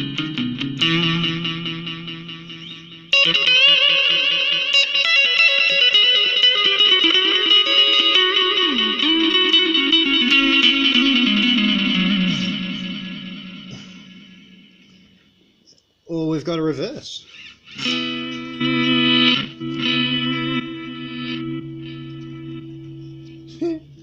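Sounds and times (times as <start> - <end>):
electric guitar with warbling delay: 0.0 - 15.5, 17.4 - 24.0.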